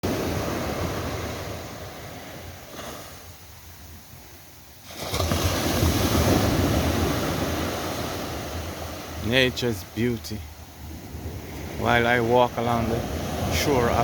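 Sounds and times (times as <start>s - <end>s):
wave washing on sand: 0.0s - 14.0s.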